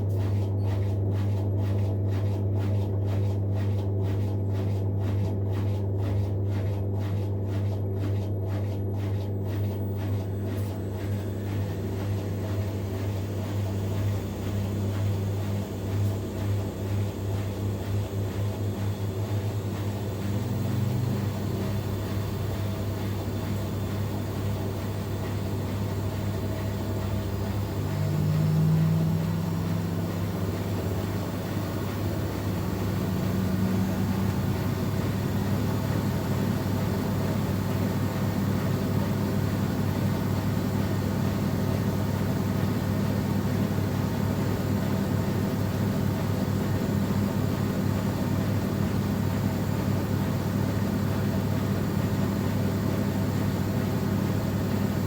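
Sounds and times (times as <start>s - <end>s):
washing machine spinning hum: 0.0s - 55.0s.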